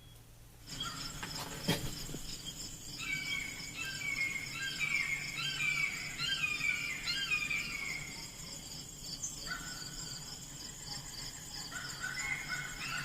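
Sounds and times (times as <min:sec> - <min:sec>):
bird singing: 0:00.0 - 0:13.0
insects chirping: 0:00.0 - 0:13.0.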